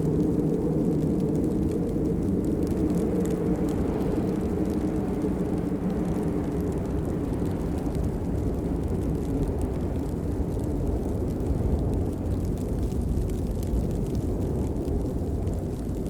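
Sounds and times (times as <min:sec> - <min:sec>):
steady rain: 0:00.0 - 0:16.0
ticks of raindrops: 0:00.0 - 0:16.0.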